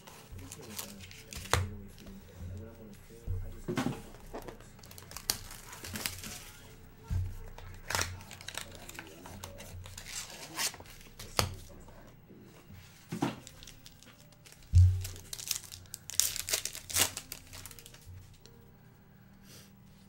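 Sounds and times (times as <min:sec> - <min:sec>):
wrappers crinkling and tearing: 0:00.0 - 0:11.8, 0:12.9 - 0:18.6.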